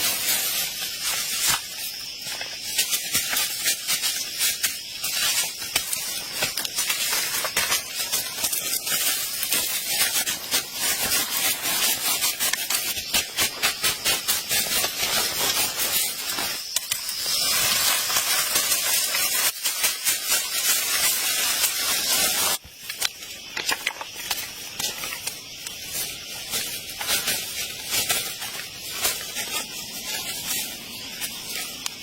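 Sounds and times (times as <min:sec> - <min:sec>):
crackling hiss: 0:00.0 - 0:32.0.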